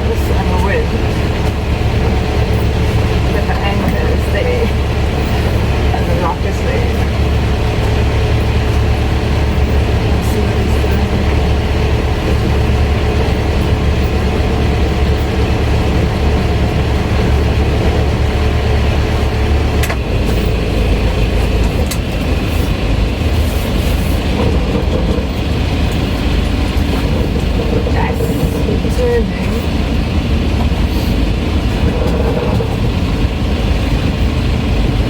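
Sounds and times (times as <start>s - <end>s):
boat engine running: 0.0s - 35.0s
wind rushing over microphone: 0.0s - 35.0s.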